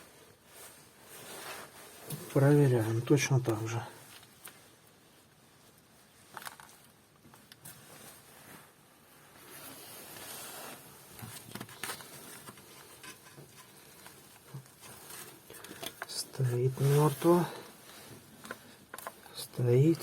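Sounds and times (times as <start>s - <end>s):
soft hissing rustle: 0.0s - 6.3s, 7.6s - 15.6s, 16.3s - 20.0s.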